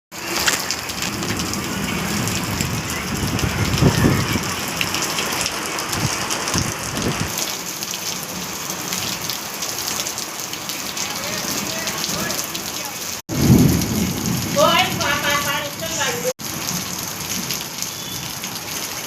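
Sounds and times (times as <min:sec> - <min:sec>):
heavy rain falling: 0:00.1 - 0:19.0.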